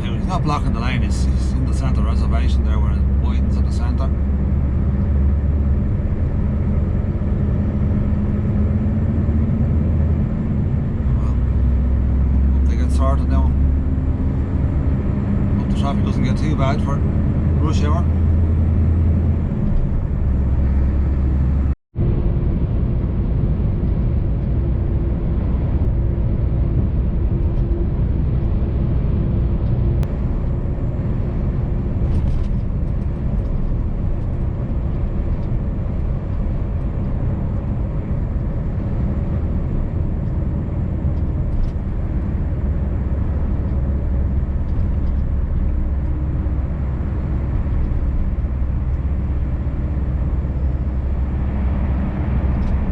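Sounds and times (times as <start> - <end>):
road and tyre noise: 0.0 - 52.9
truck engine droning: 0.0 - 52.9.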